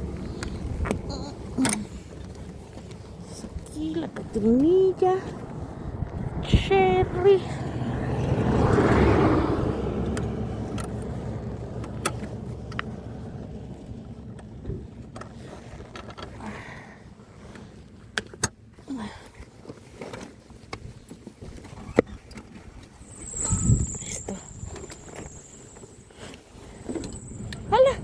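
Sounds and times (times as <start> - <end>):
low engine-like rumble: 0.0 - 19.8, 22.7 - 28.0.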